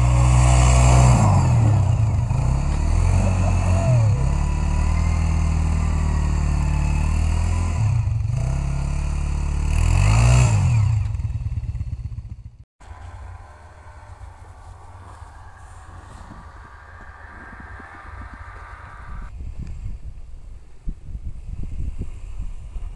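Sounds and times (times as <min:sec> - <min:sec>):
atv engine revving: 0:00.0 - 0:19.3.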